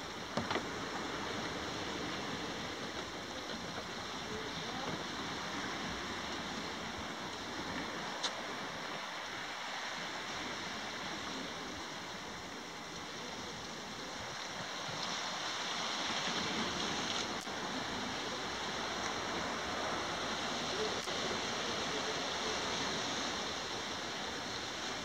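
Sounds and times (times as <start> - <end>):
sea washing against rocky shore: 0.0 - 25.0.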